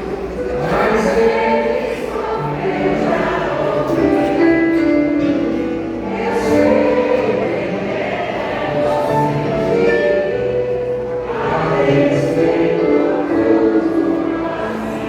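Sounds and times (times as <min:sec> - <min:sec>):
group singing gospel song: 0:00.0 - 0:15.0.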